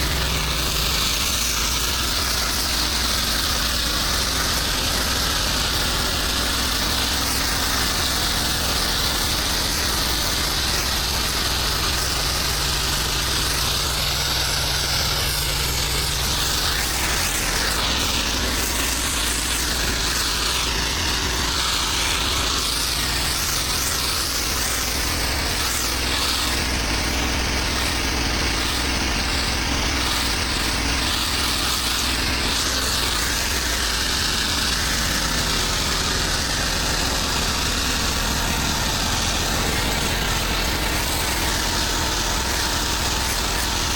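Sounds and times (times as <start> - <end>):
hiss of water spray: 0.0 - 43.9
pressure washer engine running: 0.0 - 43.9.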